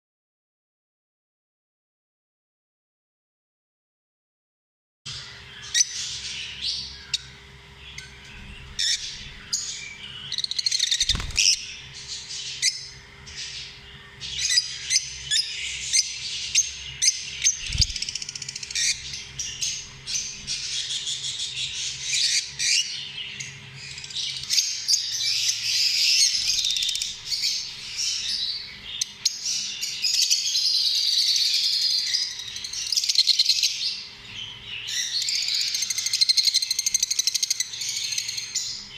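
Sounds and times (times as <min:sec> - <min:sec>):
birds chirping and squawking: 0:05.1 - 0:38.9.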